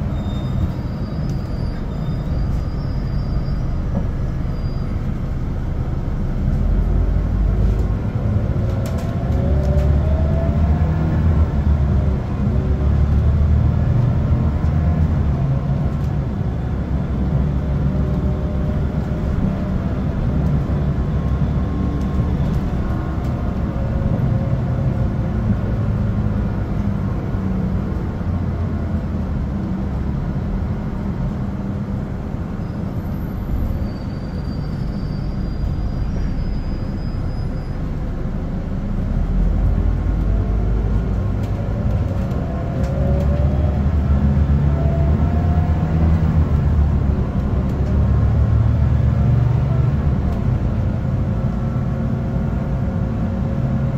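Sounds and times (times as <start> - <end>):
bus engine drone: 0.0 - 53.9.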